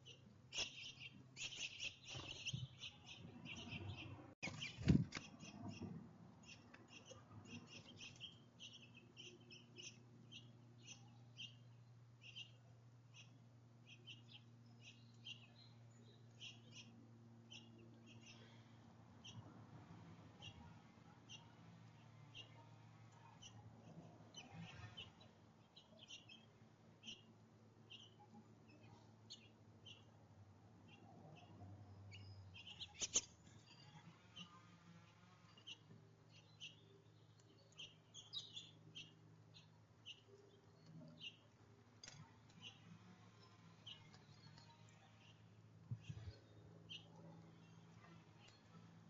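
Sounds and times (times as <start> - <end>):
songbirds chirping: 0.0 - 49.0.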